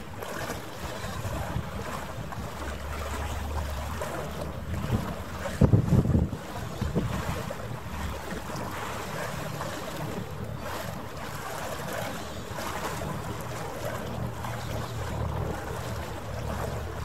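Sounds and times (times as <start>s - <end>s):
boat engine drone: 0.0s - 17.0s
wind on microphone: 0.4s - 17.0s.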